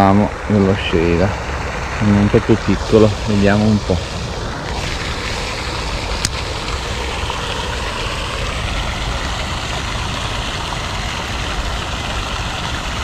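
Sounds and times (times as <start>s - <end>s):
fountain aerator hiss: 0.0s - 13.0s
wind rumbling on microphone: 0.0s - 13.0s.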